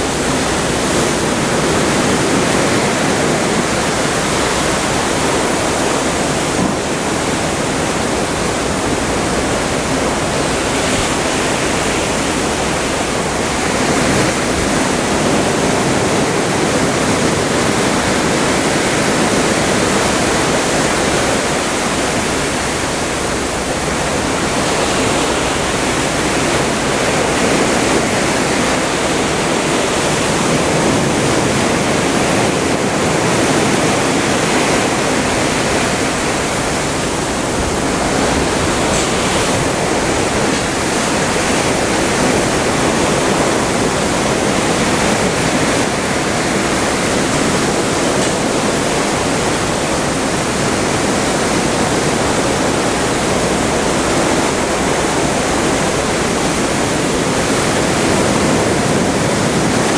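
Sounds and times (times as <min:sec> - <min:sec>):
sea water rushing past a ship: 0:00.0 - 0:59.9.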